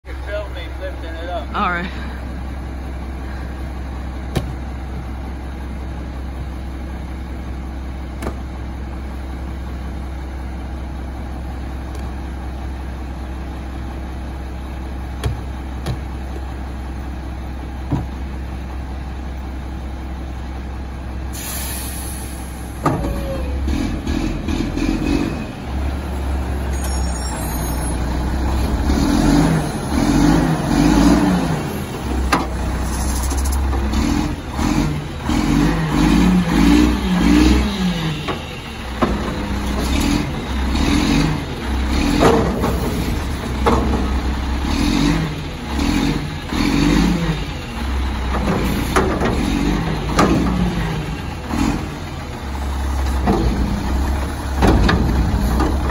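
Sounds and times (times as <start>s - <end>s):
garbage truck engine idling: 0.1s - 55.9s.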